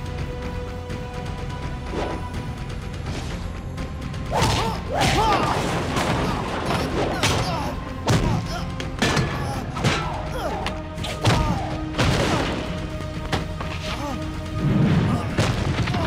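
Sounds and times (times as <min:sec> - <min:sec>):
tense background score: 0:00.0 - 0:16.0.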